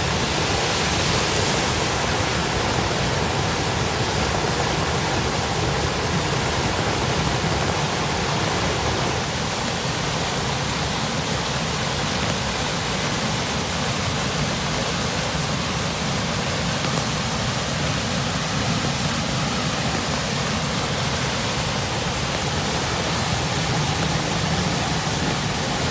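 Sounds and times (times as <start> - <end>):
stream water rushing: 0.0 - 25.9.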